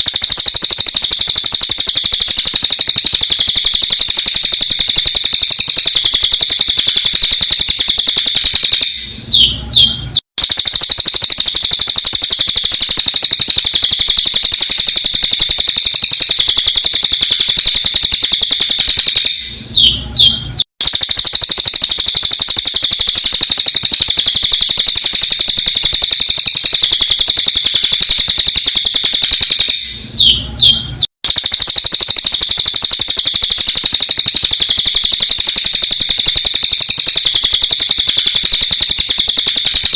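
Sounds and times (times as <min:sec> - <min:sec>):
rapid high-pitched bird chattering: 0:00.0 - 0:39.9.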